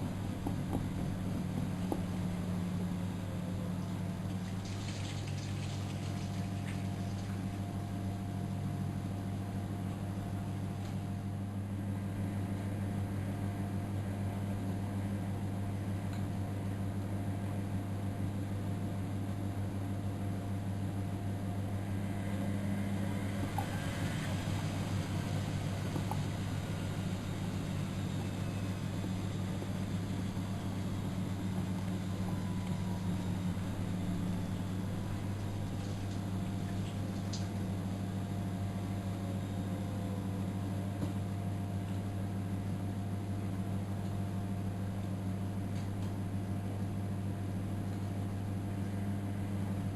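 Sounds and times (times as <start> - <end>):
washing machine hum: 0.0 - 49.9.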